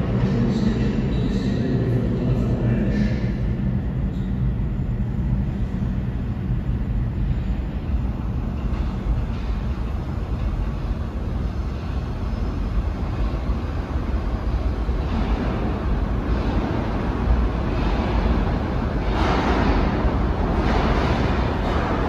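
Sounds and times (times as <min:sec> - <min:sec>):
subway train rumbling: 0:00.0 - 0:22.0
train rushing noise: 0:00.0 - 0:22.0.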